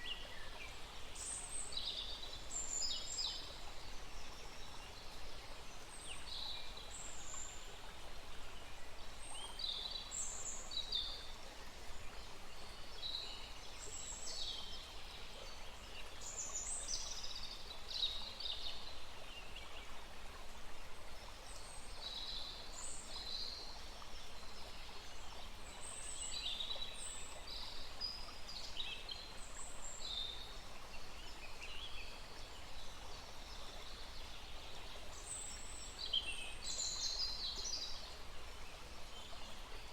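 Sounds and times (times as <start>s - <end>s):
forest stream rushing: 0.0s - 39.9s.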